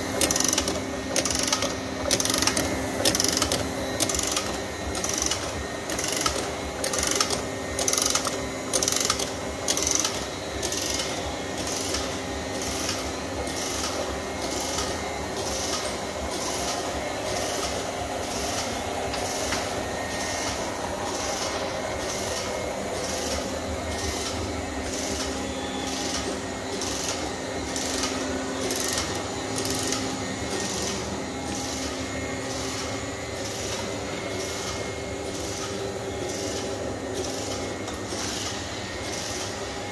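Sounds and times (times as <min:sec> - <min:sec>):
printing machine clatter: 0:00.0 - 0:39.9.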